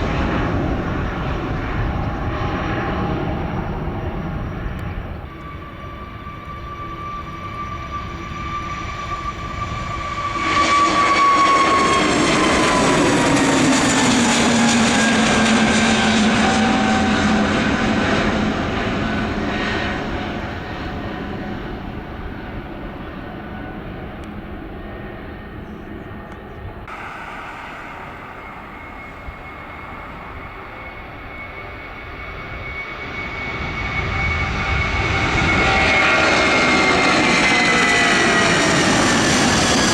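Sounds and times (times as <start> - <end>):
aircraft engine whine: 0.0 - 39.9
jet airliner passing: 0.0 - 39.9.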